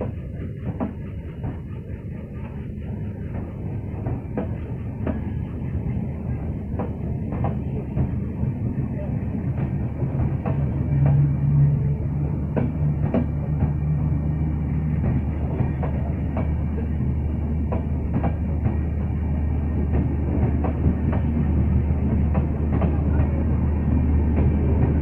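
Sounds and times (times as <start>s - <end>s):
train coaches rumbling past: 0.0s - 25.0s.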